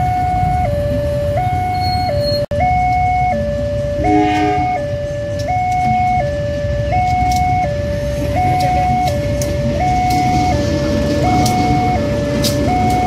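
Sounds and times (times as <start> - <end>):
approaching train rumble: 0.0 - 6.9, 7.8 - 13.0
two-tone crossing siren: 0.0 - 13.0.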